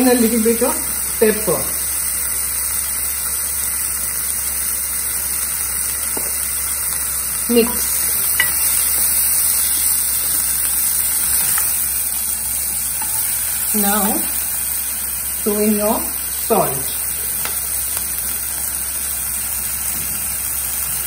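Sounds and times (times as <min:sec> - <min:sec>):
vegetables sizzling in a pot: 0:00.0 - 0:21.0.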